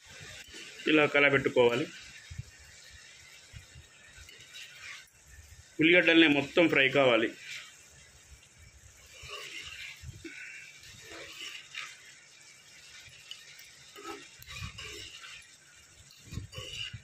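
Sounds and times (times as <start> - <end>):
food frying in oil: 0.0 - 17.0
metal ladle scraping a pan: 0.1 - 17.0.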